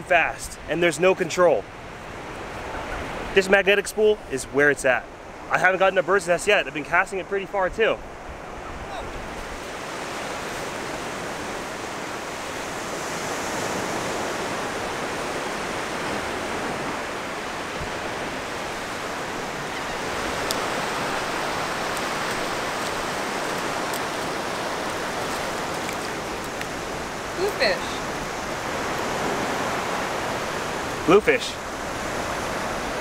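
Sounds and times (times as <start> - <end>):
ocean surf washing on beach: 0.0 - 33.0.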